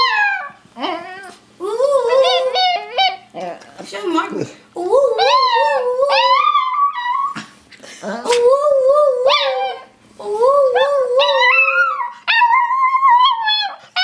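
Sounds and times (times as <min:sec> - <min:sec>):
small dog howling: 0:00.0 - 0:03.2, 0:04.8 - 0:07.4, 0:08.0 - 0:14.0.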